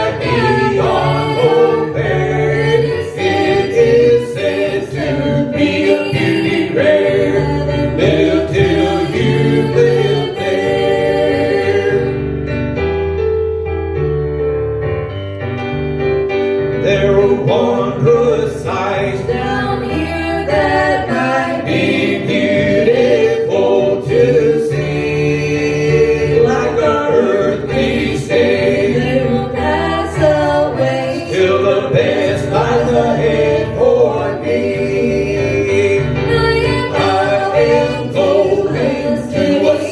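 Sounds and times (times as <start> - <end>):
vocal group singing gospel: 0.0 - 12.6, 16.8 - 39.9.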